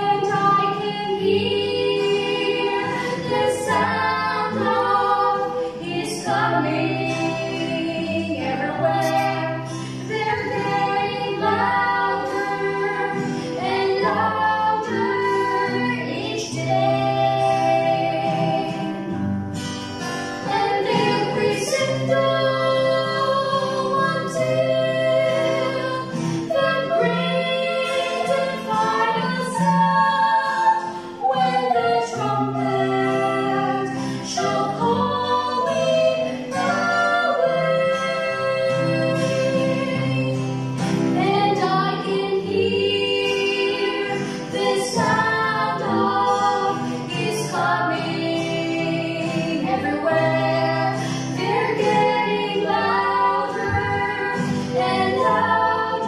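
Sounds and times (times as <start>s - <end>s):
acoustic guitar: 0.0s - 56.0s
people singing gospel song: 0.0s - 56.0s.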